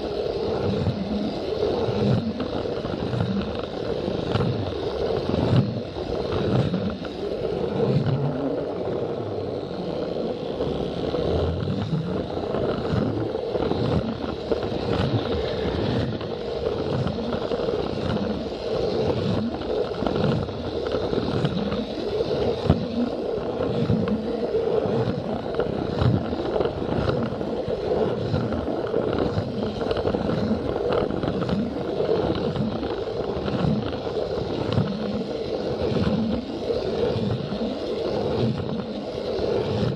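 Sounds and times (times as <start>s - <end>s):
toy train motor whir: 0.0s - 39.9s
wheels clacking over track joints: 0.0s - 39.9s.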